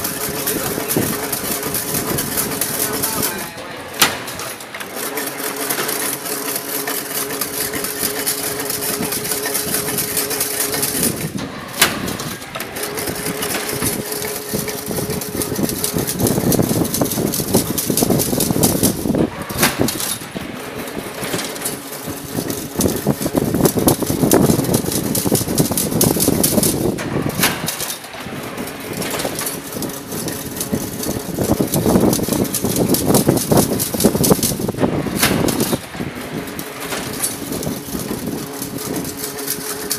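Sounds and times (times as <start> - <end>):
sharp machine click: 0.0 - 35.9
machine motor hum: 0.0 - 39.9
wire rattling: 0.0 - 39.9.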